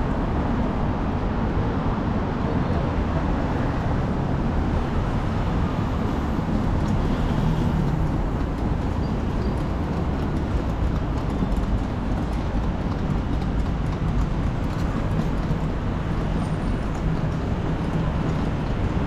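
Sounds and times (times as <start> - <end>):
train running rumble: 2.5 - 19.0.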